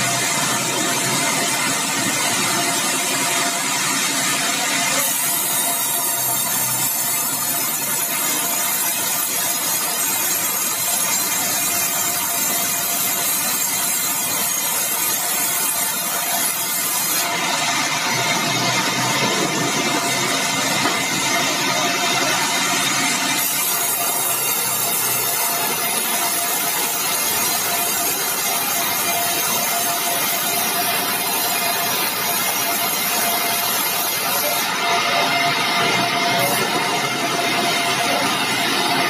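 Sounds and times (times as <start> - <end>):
saw cutting log: 0.0 - 39.0
sawmill engine running: 0.0 - 39.0.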